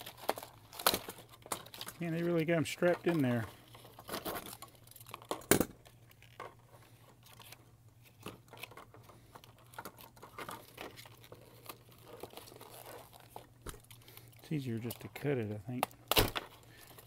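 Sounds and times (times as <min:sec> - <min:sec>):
packaging crinkling: 0:00.0 - 0:17.0.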